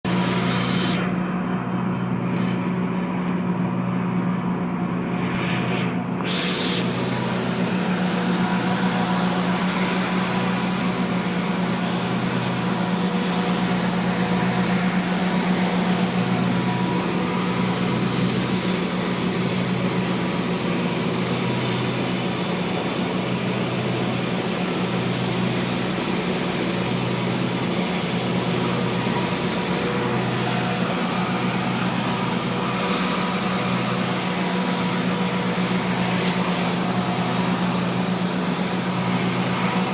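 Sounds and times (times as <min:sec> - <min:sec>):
welding arc hiss and crackle: 0:00.1 - 0:01.3, 0:05.0 - 0:39.9
low machinery hum: 0:00.1 - 0:39.9.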